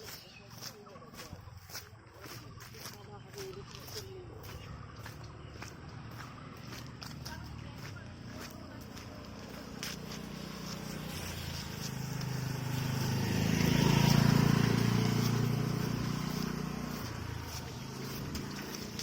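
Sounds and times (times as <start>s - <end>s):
motor vehicle passing by: 0.0s - 19.0s.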